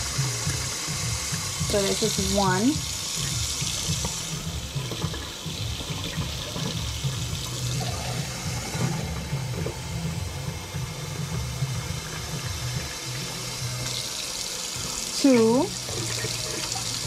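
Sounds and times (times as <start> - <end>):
cup filling with water: 0.0 - 17.0.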